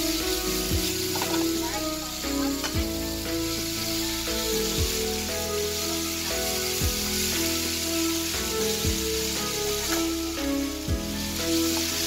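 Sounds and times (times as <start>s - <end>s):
background music with deep beat: 0.0s - 12.0s
noodles sizzling in a pan: 0.0s - 12.0s.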